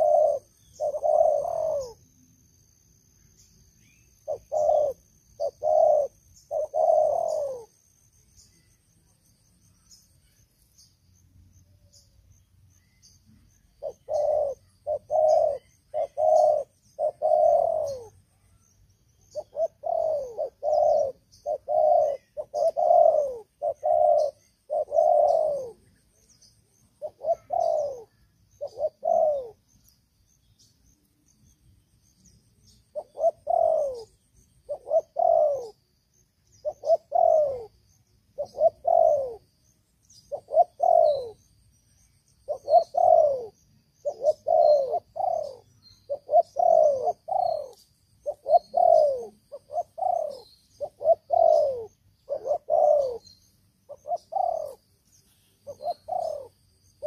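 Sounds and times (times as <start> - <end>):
dove cooing: 0.0 - 2.2, 3.9 - 8.7, 12.9 - 29.9, 32.6 - 41.6, 42.3 - 57.0.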